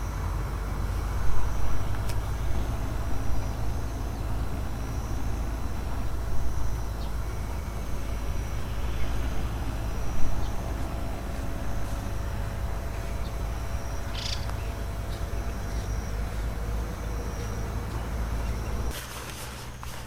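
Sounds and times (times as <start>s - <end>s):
low rumble: 0.0s - 18.9s
insects trilling: 0.0s - 20.0s.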